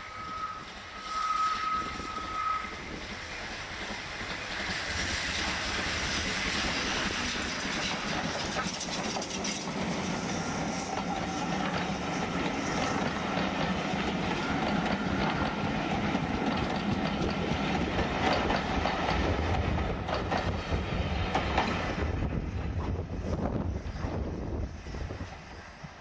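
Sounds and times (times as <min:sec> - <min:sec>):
train wheels clattering over rails: 0:02.1 - 0:24.2.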